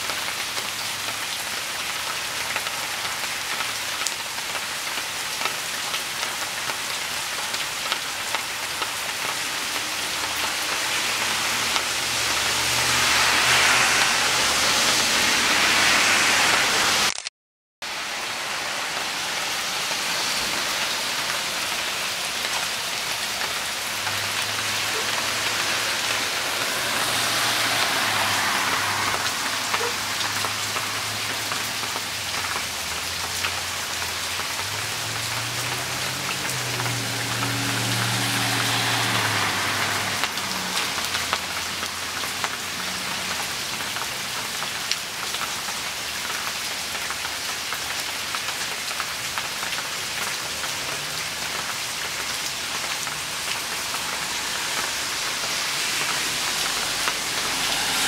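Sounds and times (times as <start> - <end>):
rain falling on grass: 0.0 - 58.0.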